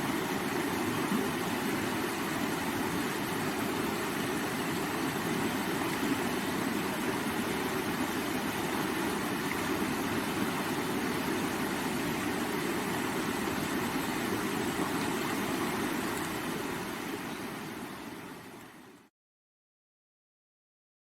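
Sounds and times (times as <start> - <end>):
river water rushing: 0.0 - 19.1.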